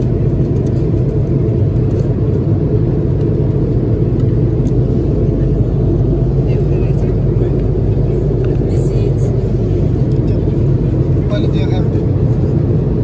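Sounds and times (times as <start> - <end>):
jet cabin low roar: 0.0 - 13.0.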